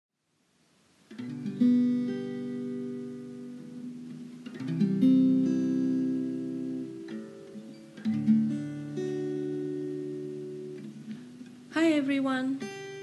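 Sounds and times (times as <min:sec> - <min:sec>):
acoustic guitar chords strummed: 0:01.1 - 0:13.0.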